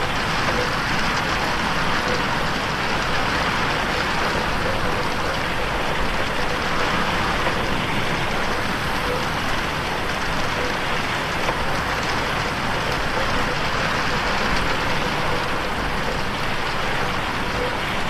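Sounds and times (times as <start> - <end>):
rain on a window: 0.0 - 18.0.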